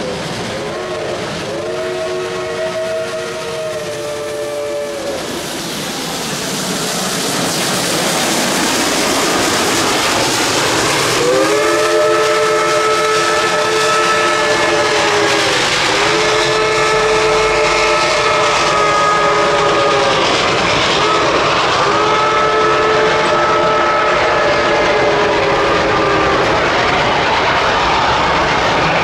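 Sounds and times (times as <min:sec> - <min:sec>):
steam whistle blasts: 0:00.0 - 0:05.5, 0:09.1 - 0:27.2
steam locomotive hissing: 0:00.0 - 0:29.0.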